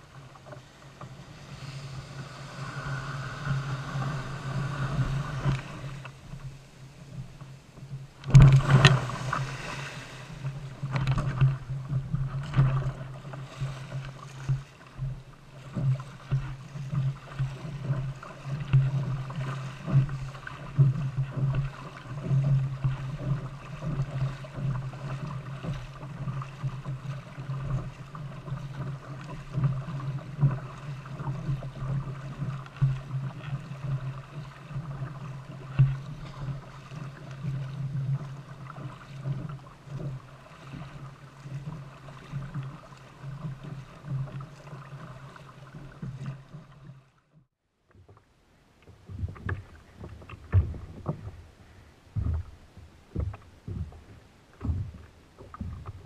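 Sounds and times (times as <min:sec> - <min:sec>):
surf washing and splashing: 0:00.0 - 0:47.4
water sloshing against kayak hull: 0:00.0 - 0:56.0.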